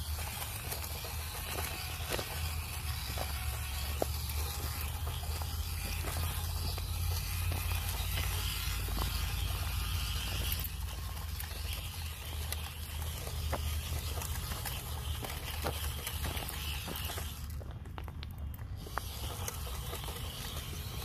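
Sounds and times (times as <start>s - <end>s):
pebbles clicking: 0.0s - 21.0s.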